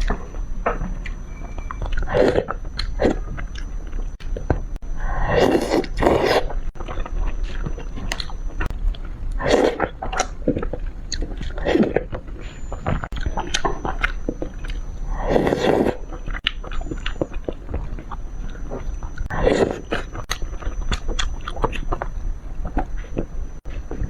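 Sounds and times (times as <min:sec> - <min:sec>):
wet chewing and biting: 0:00.0 - 0:24.0.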